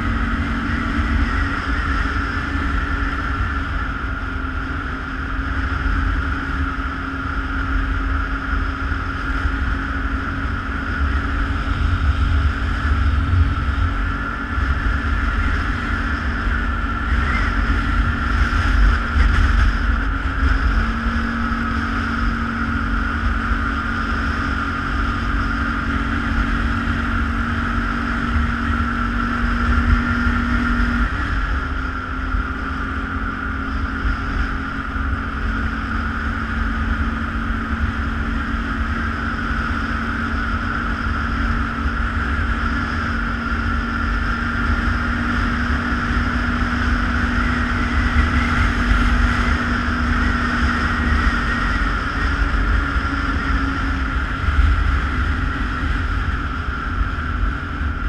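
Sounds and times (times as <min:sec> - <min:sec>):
atv engine running: 0:00.0 - 0:58.0
wind rumbling on microphone: 0:00.0 - 0:58.0.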